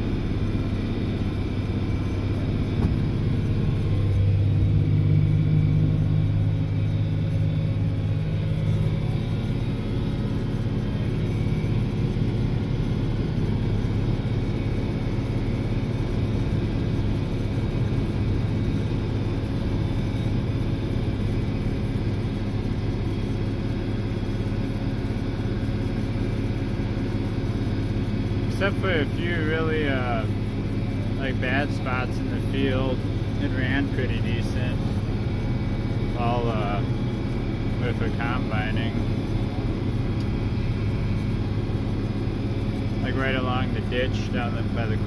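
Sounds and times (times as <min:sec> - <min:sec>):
forage chopper droning: 0:00.0 - 0:45.0
tractor diesel engine under load: 0:00.0 - 0:45.0.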